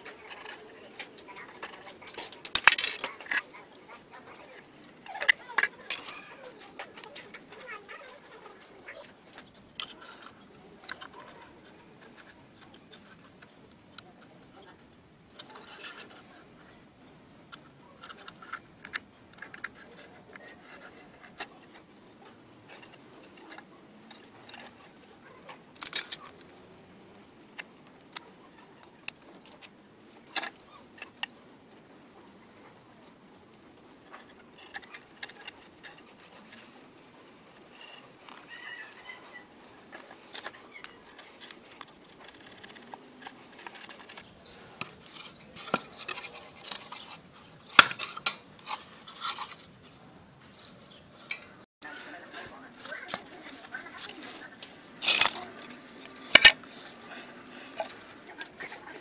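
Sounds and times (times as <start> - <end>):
wooden parts tapping and knocking: 0.0 - 14.3, 17.5 - 31.8, 32.4 - 49.7, 52.4 - 56.9
rubbing and rustling: 0.0 - 16.8, 17.5 - 50.7, 51.8 - 59.0.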